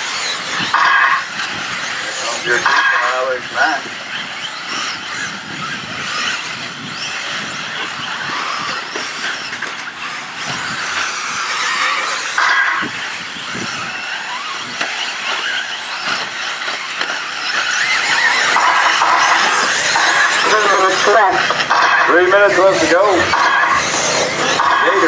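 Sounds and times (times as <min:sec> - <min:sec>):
electric rc car motors whining: 0:00.0 - 0:25.0.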